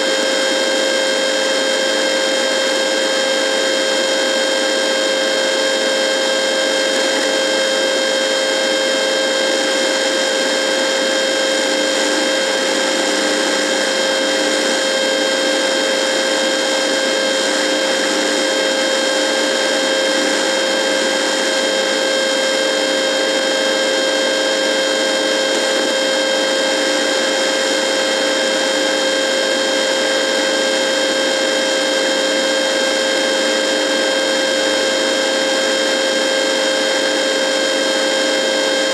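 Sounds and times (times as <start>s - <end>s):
radio electronic hum with tones: 0.0s - 38.9s.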